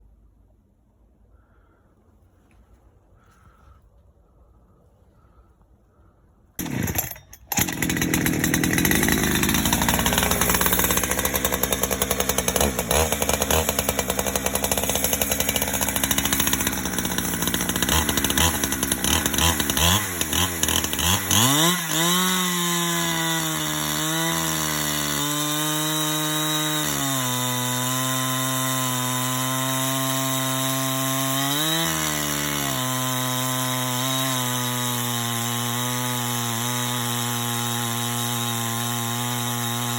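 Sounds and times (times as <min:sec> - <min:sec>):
chainsaw running: 0:06.6 - 0:39.9.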